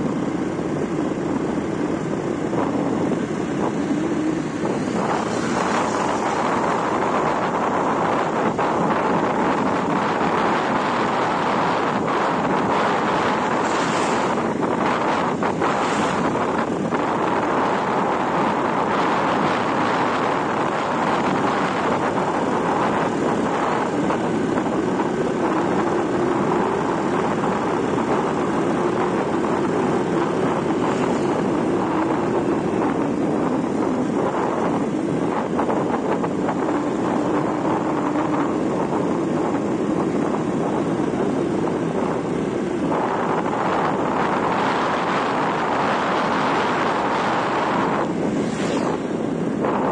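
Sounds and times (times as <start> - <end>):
motorbike engine drone: 0.0 - 49.9
wind on microphone: 0.0 - 49.9.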